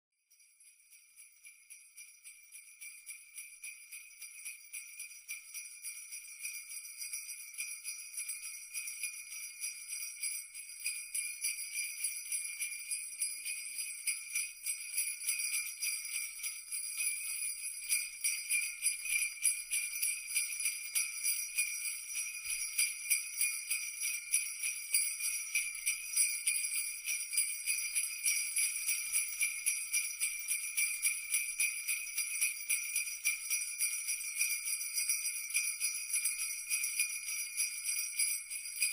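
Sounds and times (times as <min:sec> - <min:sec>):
sleigh bells jingling: 0:00.3 - 0:38.9.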